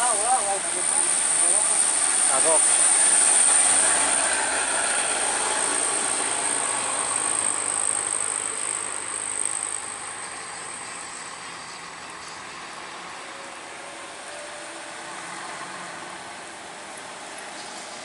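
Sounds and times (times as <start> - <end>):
heavy truck passing: 0.0 - 18.0.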